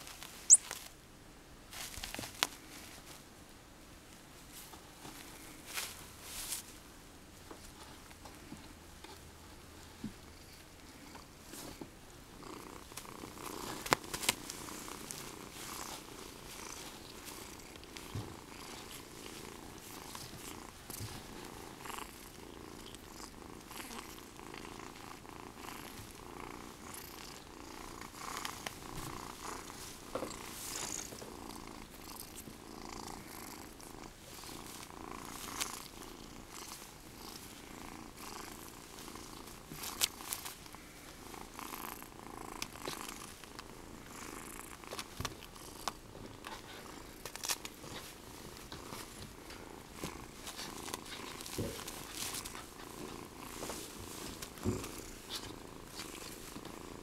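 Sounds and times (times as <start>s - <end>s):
kitten purring: 7.7s - 57.0s.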